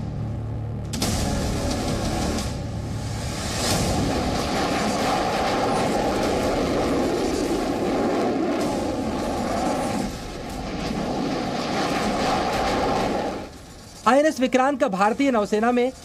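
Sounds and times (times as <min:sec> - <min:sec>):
jet engines at afterburner: 0:00.9 - 0:16.0.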